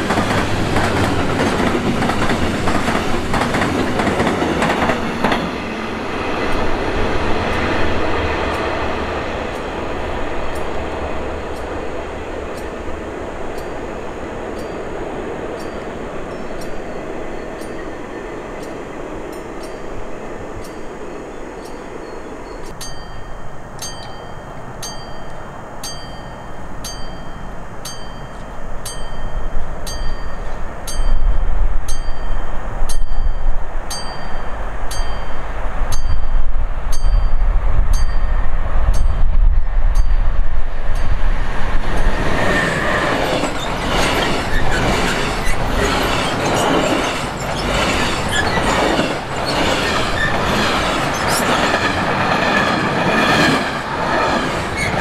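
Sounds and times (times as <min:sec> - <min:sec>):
train passing with deep rumble: 0:00.0 - 0:55.0.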